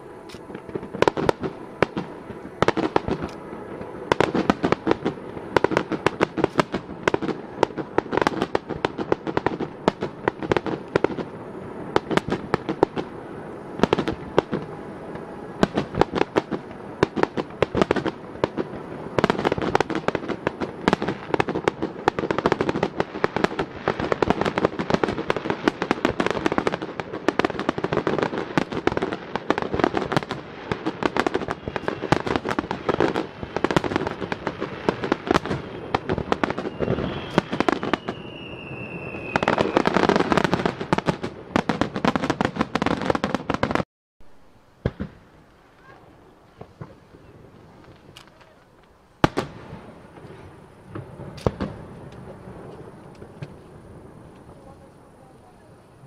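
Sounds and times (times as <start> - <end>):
fireworks launching and bursting: 0.0 - 56.0.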